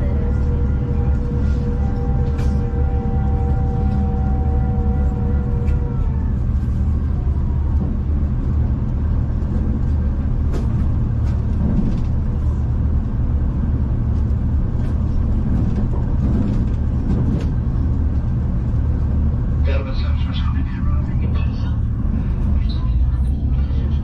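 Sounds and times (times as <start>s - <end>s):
train rumble from inside carriage: 0.0s - 24.0s.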